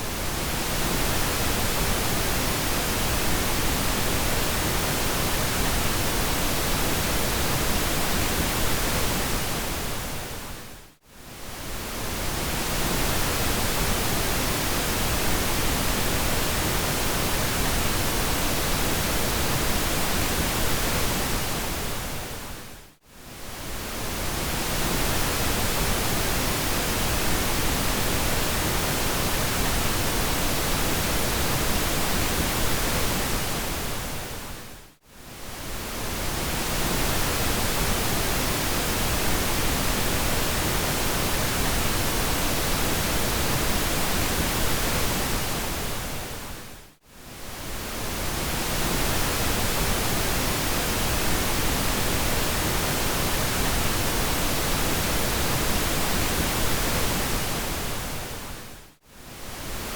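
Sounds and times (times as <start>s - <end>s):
pink noise hiss: 11.3s - 59.9s.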